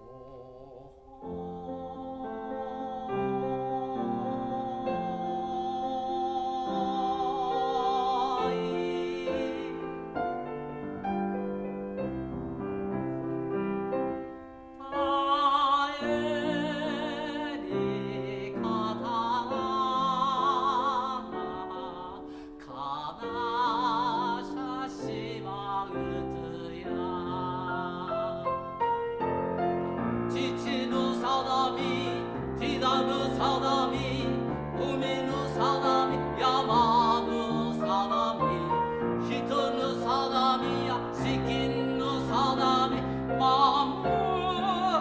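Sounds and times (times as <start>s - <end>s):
man singing with vibrato: 0.0s - 10.0s, 14.8s - 28.8s, 30.3s - 45.0s
grand piano accompaniment: 0.0s - 45.0s.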